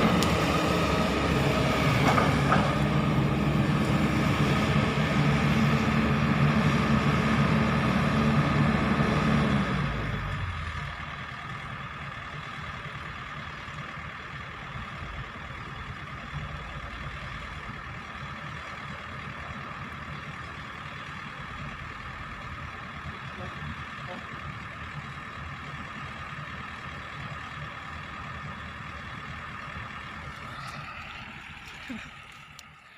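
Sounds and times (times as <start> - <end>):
excavator diesel engine: 0.0 - 32.9.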